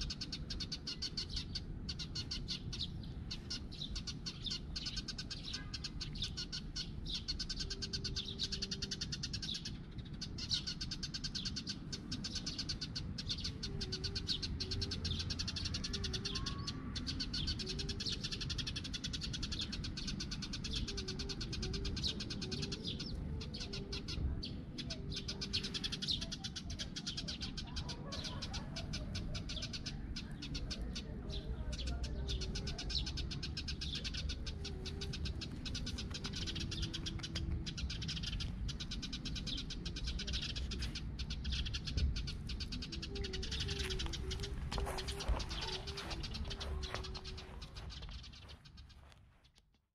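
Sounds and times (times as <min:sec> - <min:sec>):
high-pitched chirping: 0:00.0 - 0:31.0, 0:31.9 - 0:49.1.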